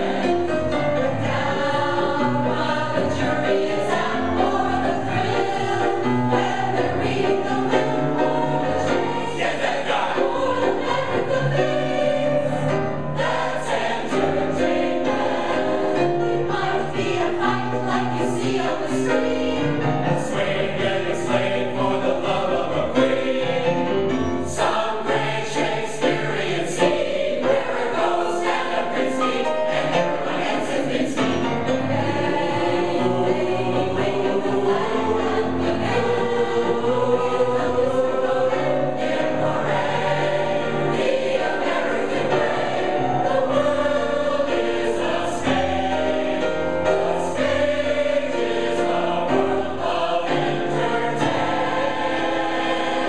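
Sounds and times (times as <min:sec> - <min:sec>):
mixed choir singing: 0:00.0 - 0:53.0.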